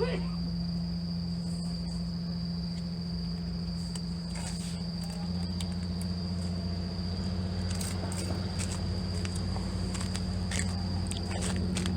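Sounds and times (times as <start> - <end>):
crickets trilling: 0.0 - 11.9
low steady hum: 0.0 - 11.9.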